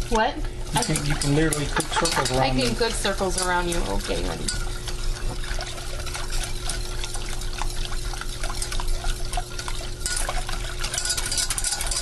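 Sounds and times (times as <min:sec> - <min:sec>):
whisk wires clicking on pan: 0:00.1 - 0:12.0
whisk swishing in soup: 0:00.6 - 0:12.0.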